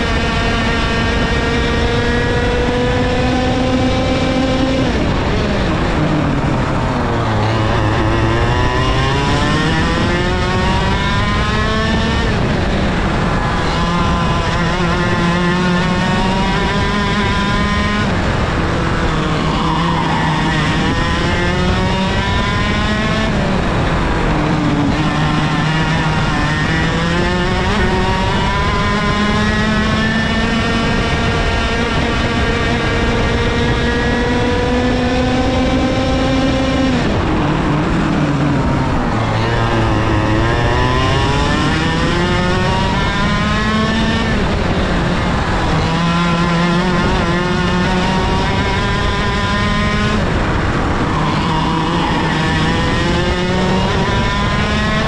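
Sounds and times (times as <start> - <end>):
kart engine racing: 0.0 - 55.0.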